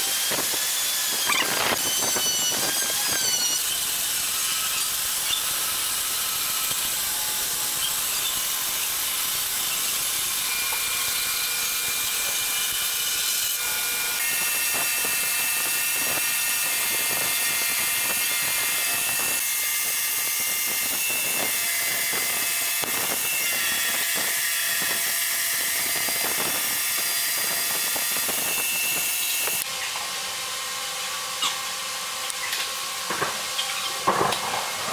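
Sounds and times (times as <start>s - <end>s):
bandsaw cutting wood: 0.0s - 29.7s
sanding drum spinning: 0.0s - 31.4s.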